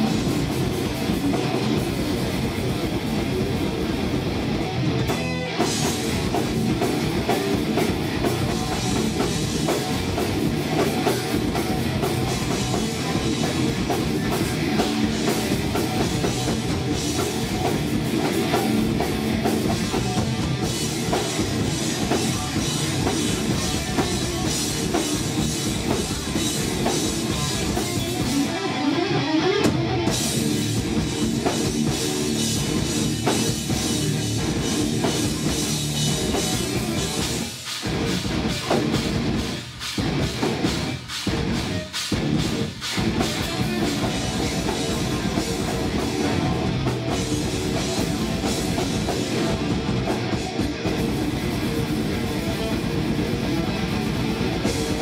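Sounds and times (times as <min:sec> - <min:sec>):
bass guitar: 0:00.0 - 0:55.0
drum kit: 0:00.0 - 0:55.0
electric guitars: 0:00.0 - 0:55.0
heavy metal band playing: 0:00.0 - 0:55.0.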